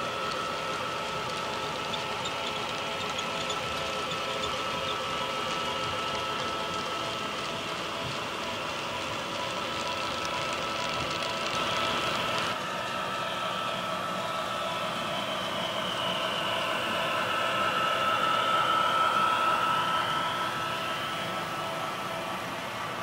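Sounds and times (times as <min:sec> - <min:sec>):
model train motors whirring: 0:00.0 - 0:23.0.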